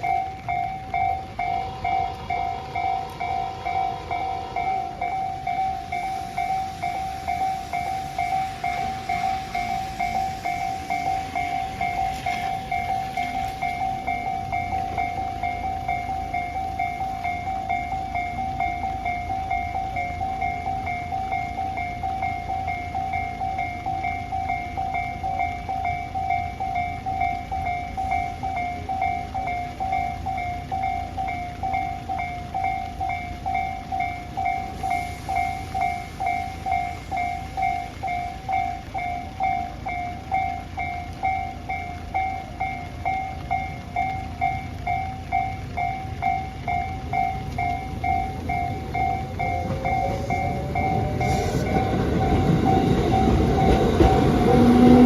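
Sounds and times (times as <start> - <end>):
railroad crossing bell ringing: 0.0 - 55.0
train rumble: 0.0 - 55.0.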